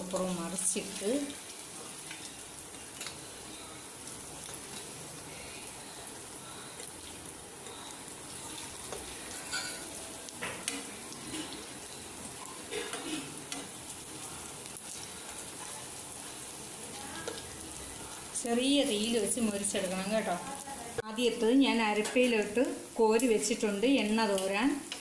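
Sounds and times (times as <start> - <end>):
fritters sizzling in oil: 0.0 - 25.0.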